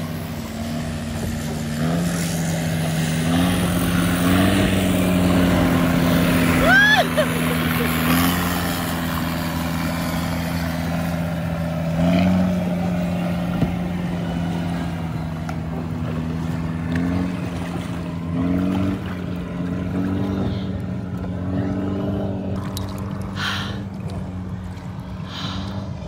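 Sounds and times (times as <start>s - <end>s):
motorboat engine running: 0.0s - 26.0s
rush of wind and water: 0.0s - 26.0s.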